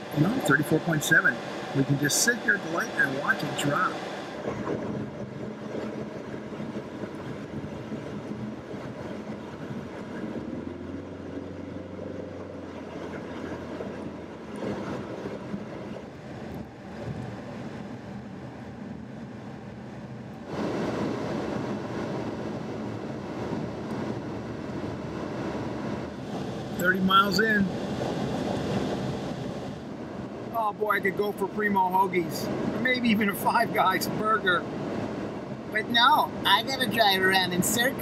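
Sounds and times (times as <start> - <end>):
car engine hum: 0.0 - 38.0
road and tyre noise: 0.0 - 38.0.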